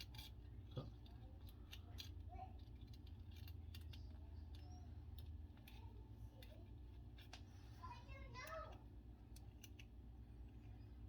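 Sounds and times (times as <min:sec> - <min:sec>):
small metal clicks and taps: 0:00.0 - 0:07.5, 0:08.4 - 0:10.0
steady low hum: 0:00.0 - 0:11.0.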